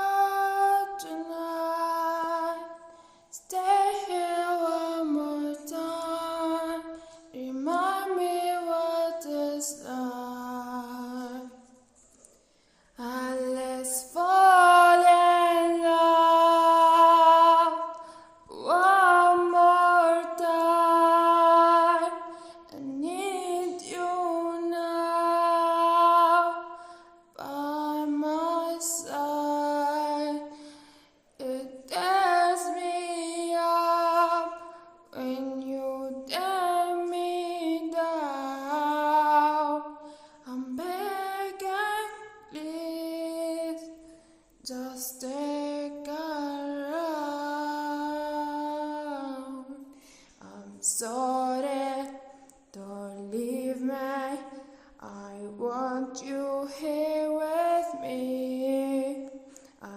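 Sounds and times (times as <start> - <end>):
woman singing unaccompanied: 0.0 - 11.6, 13.0 - 30.6, 31.4 - 59.9.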